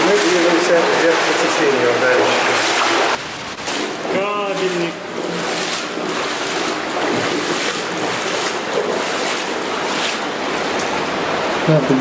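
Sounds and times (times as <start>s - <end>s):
water rushing in concrete channel: 0.0s - 12.0s.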